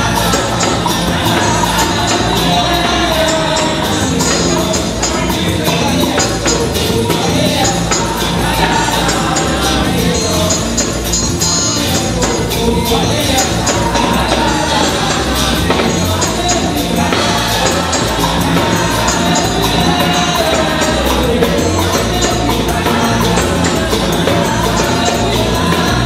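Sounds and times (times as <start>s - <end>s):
jingling percussion beat: 0.0s - 26.0s
person singing: 0.0s - 26.0s
upbeat music: 0.0s - 26.0s.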